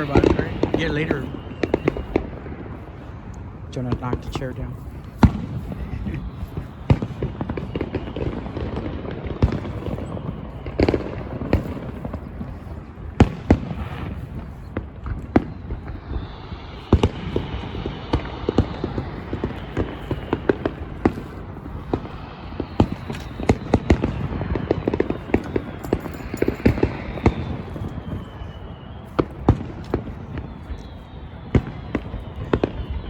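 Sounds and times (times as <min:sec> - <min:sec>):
fireworks popping and crackling: 0:00.0 - 0:33.0.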